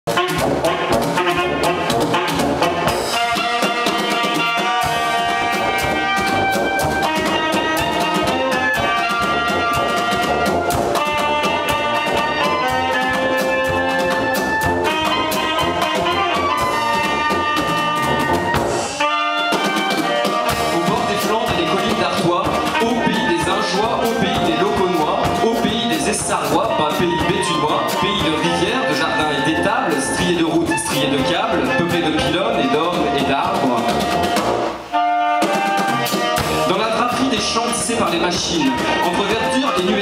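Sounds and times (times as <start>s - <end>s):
brass horn: 0.1s - 40.0s
drum kit beat: 0.1s - 40.0s
saxophone and clarinet: 0.1s - 40.0s
tuba: 0.1s - 40.0s.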